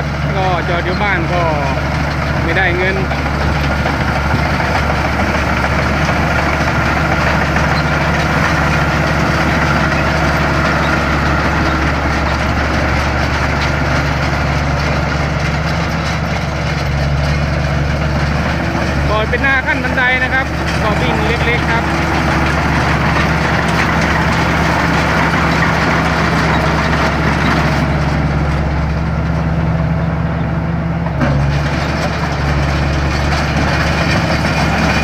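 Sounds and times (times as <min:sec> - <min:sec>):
diesel engine droning: 0:00.0 - 0:35.0
harvester machinery noise: 0:00.0 - 0:35.0.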